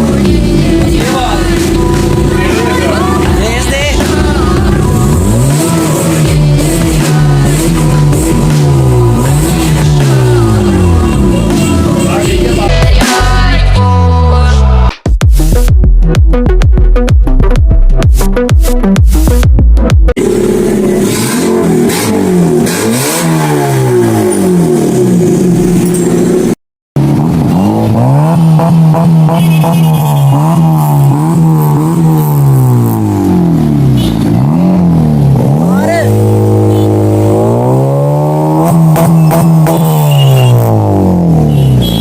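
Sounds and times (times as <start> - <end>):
car engine revving: 0.0 - 14.8, 18.1 - 42.0.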